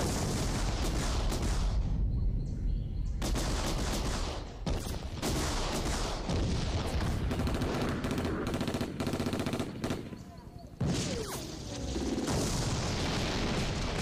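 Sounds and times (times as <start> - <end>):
machine-gun and rifle fire: 0.0 - 1.9, 3.2 - 14.0.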